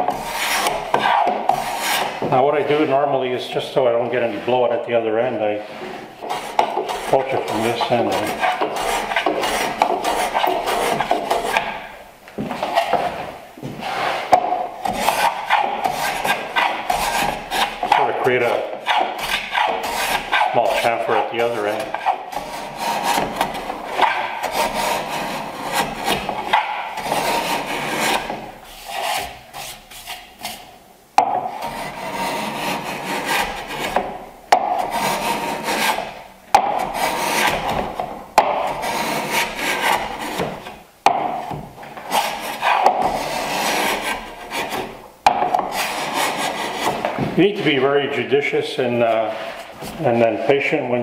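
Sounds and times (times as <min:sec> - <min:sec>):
hand plane shaving wood: 0:00.0 - 0:02.9, 0:05.8 - 0:11.8, 0:13.8 - 0:30.6, 0:31.5 - 0:41.2, 0:42.0 - 0:47.8.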